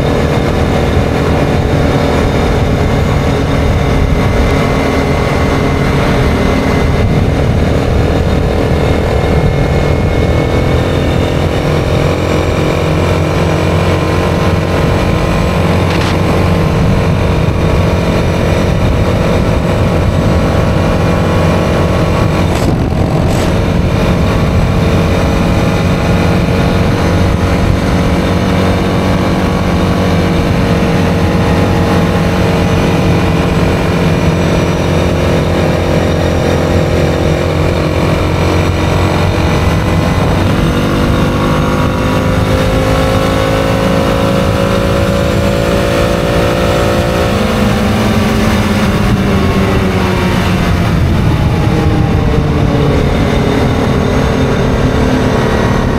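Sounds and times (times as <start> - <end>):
atv engine running hard: 0.0 - 55.9
wind rush on microphone: 0.0 - 55.9.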